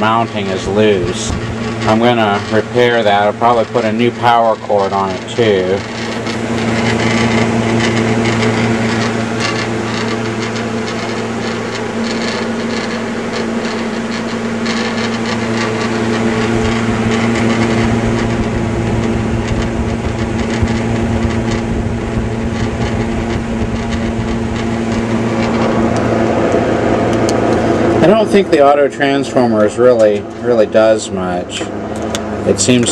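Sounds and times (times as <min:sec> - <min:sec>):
electric fan humming: 0:00.0 - 0:32.9.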